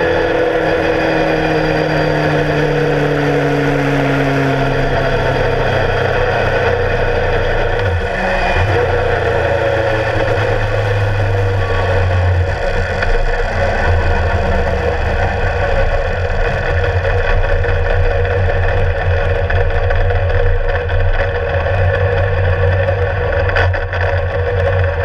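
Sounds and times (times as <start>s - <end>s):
motorcycle engine cruising: 0.0s - 25.0s
road noise: 0.0s - 25.0s.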